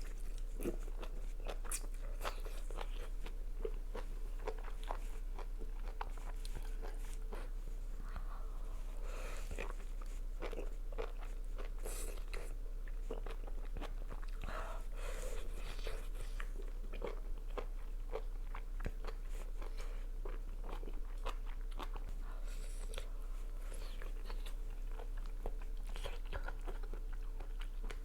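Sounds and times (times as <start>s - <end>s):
crunchy chewing mouth sounds: 0.0s - 28.0s.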